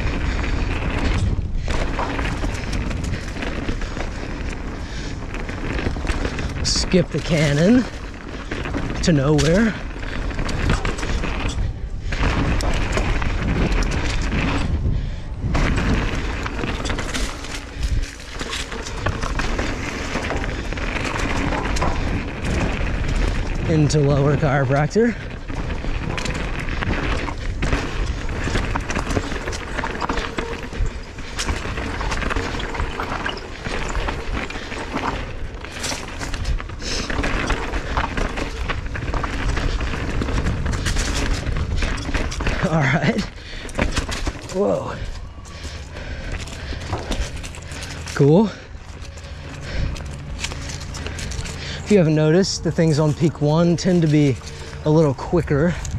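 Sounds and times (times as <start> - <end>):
bike clicks and rattles: 0.0 - 55.9
tyres over dirt and rock: 0.0 - 55.9
wind rumbling on microphone: 0.0 - 55.9.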